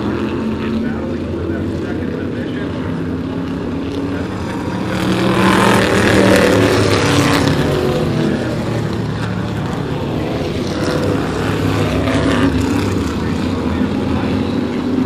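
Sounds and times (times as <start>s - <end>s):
race car engines drone: 0.0s - 15.0s.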